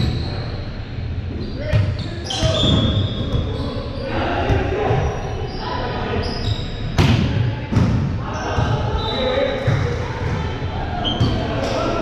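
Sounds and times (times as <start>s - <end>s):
players' voices echoing: 0.1s - 12.0s.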